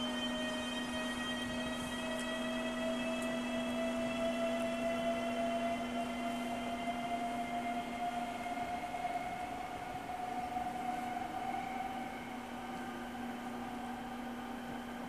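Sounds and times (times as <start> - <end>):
electric train traction whine: 0.0 - 15.0.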